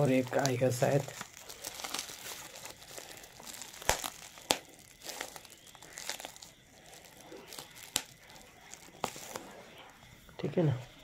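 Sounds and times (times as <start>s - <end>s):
bubble wrap snapping: 0.0s - 10.0s
bubble wrap crinkling: 0.0s - 10.3s.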